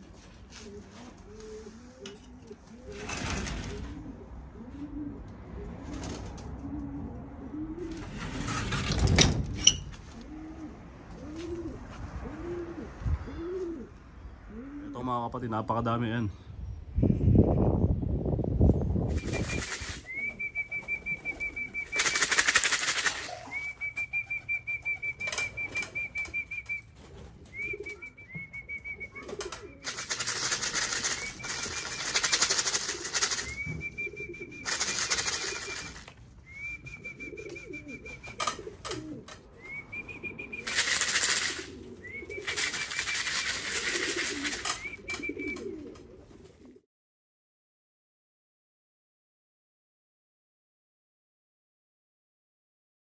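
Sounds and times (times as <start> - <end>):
pigeons cooing: 0.0 - 15.1, 19.2 - 46.8.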